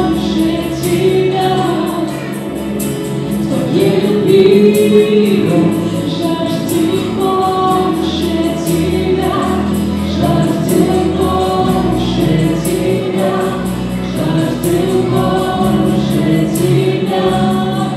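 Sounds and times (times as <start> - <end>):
acoustic guitar: 0.0 - 17.9
electric bass: 0.0 - 17.9
keyboard playing: 0.0 - 17.9
voices singing together: 0.0 - 17.9.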